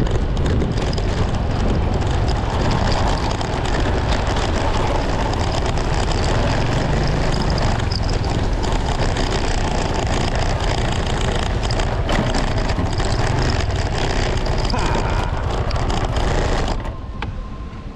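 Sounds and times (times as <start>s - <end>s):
road noise: 0.0s - 17.9s
vehicle engine: 0.0s - 17.9s
wind noise: 0.0s - 17.9s.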